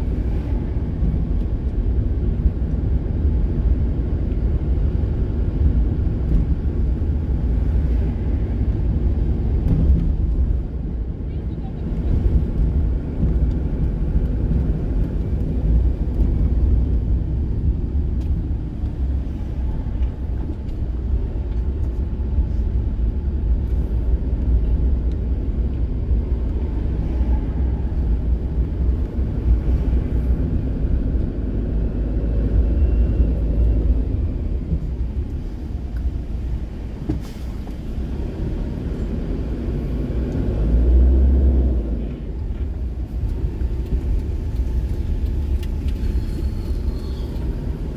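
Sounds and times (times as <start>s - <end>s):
vehicle engine and road rumble: 0.0s - 47.9s.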